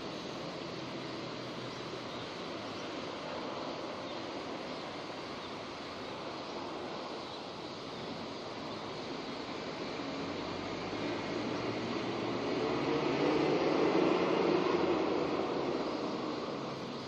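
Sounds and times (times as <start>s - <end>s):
rain falling steadily: 0.0s - 17.0s.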